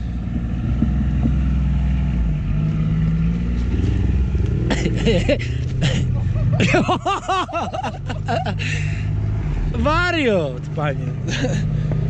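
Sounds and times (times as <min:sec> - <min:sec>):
off-road vehicle engine running: 0:00.0 - 0:12.0.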